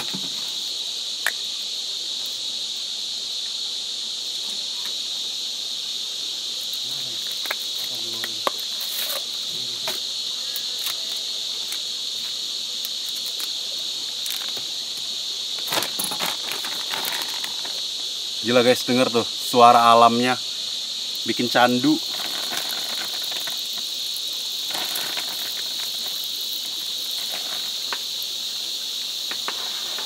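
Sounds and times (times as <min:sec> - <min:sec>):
crickets and insects trilling: 0:00.0 - 0:30.0.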